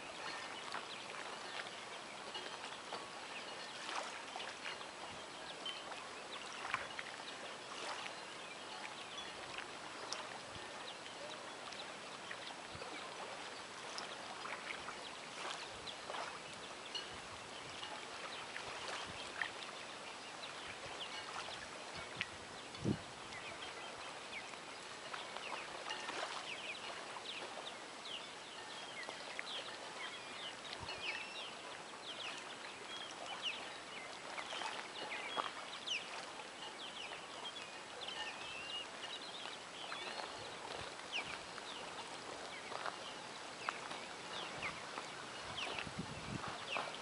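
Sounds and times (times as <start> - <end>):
small birds chirping: 0.1 - 47.0.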